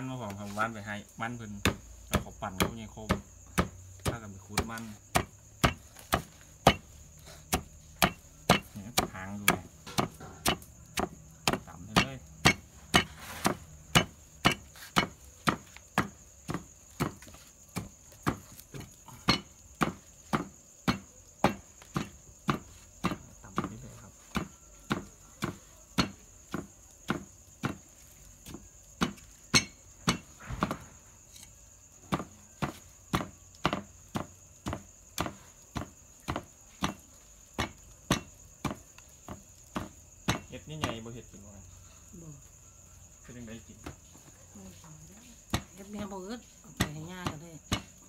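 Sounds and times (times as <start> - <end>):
crickets chirping: 0.0 - 48.0
pestle pounding in mortar: 0.8 - 30.9, 31.5 - 41.0, 45.5 - 45.8, 46.5 - 48.0.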